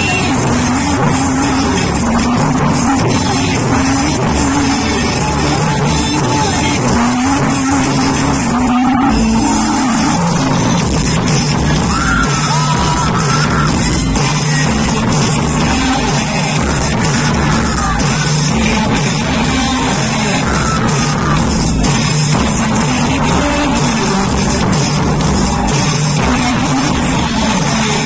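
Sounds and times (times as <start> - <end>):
loud music with singing voice: 0.0 - 28.0.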